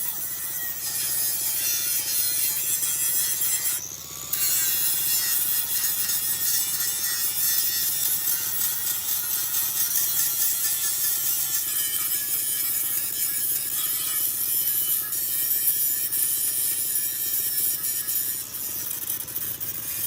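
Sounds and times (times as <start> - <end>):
rasping abrasive scraping: 0.0 - 20.0.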